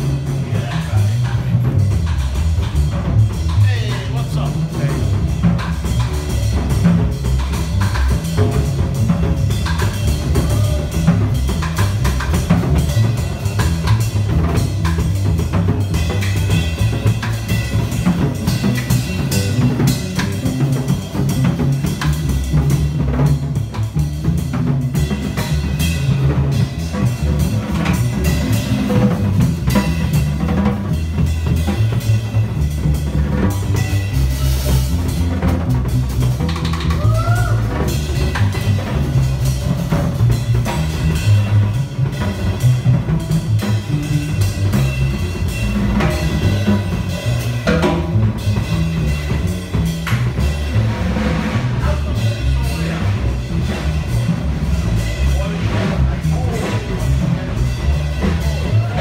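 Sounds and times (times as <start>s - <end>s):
bass line: 0.0s - 59.0s
drum kit groove: 0.0s - 59.0s.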